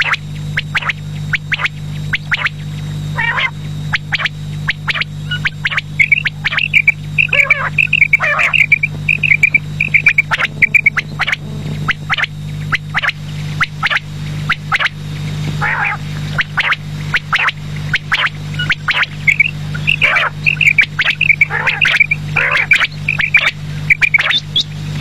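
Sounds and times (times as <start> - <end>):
quail chirping calls: 0.0 - 24.7
steady low hum: 0.0 - 25.0.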